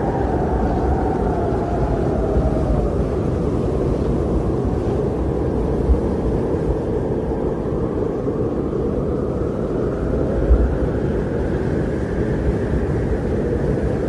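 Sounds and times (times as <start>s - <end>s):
blizzard wind with low rumble: 0.0s - 14.0s.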